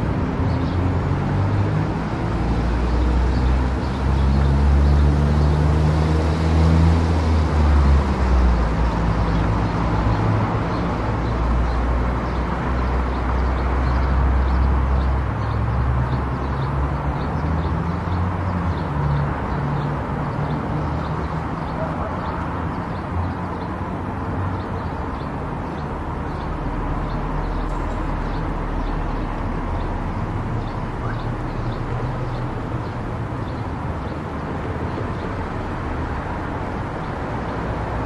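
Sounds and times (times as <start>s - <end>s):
road and engine rumble: 0.0s - 38.0s.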